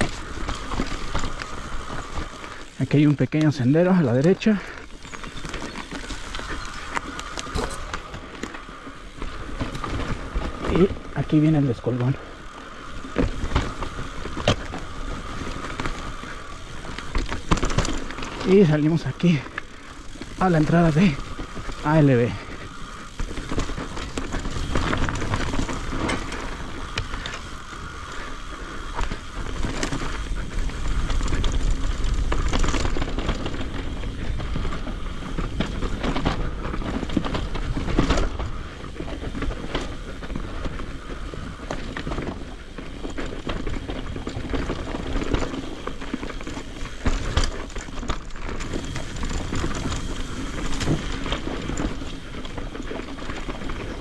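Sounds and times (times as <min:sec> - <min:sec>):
bike knocks and rattles: 0:00.0 - 0:54.0
tyres rolling over dirt and rock: 0:00.0 - 0:54.0.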